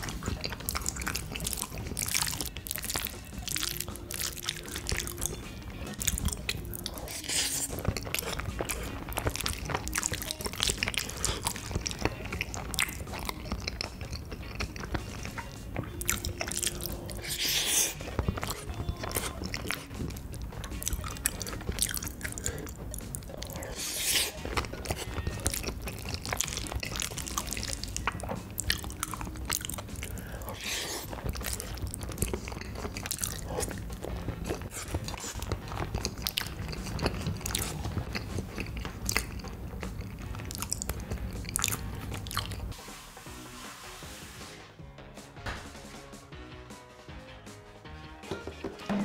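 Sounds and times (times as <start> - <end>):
mouth clicks: 0.0 - 42.8
person chewing crunchy food: 0.0 - 42.8.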